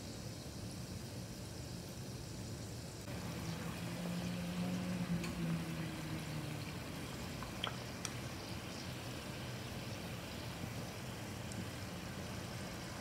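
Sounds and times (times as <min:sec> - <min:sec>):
low steady hum: 0:00.0 - 0:13.0
oil bubbling and sizzling: 0:00.0 - 0:13.0.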